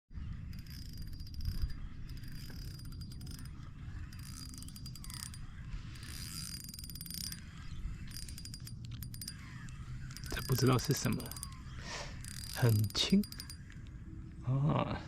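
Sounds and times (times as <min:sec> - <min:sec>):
fishing reel clicking: 0:00.2 - 0:14.1.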